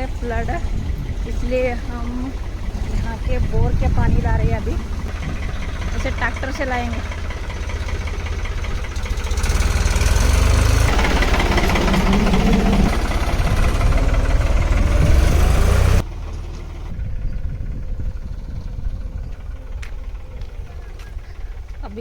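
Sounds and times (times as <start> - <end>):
tractor engine throbbing: 0.0 - 22.0.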